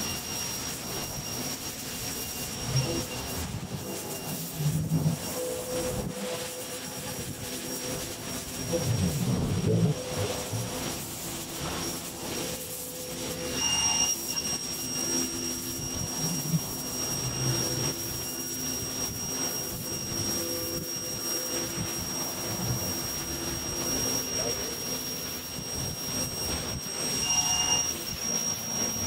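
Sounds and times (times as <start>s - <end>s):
water jet hissing: 0.0s - 26.0s.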